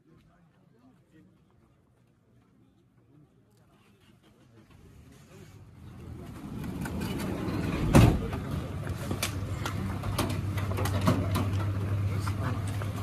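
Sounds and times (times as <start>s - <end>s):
people walking and talking: 0.0s - 13.0s.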